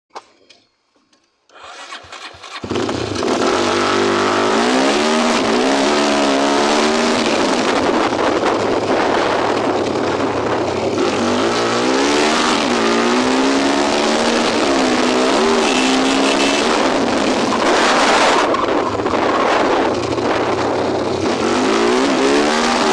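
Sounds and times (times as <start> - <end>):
motorcycle engine revving: 1.6 - 22.9.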